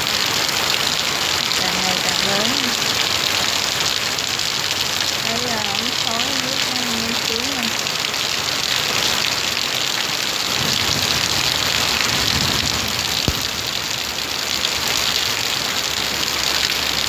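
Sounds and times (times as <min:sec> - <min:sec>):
torrential rain pouring: 0:00.0 - 0:17.0.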